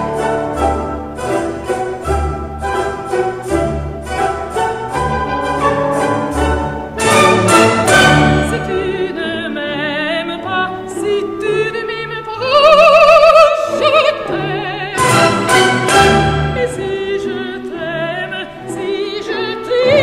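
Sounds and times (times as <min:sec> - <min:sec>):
orchestral music: 0:00.0 - 0:20.0.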